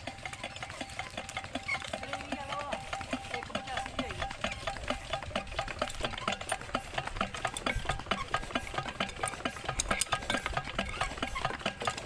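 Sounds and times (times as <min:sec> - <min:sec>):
diesel engine knocking: 0:00.0 - 0:12.0.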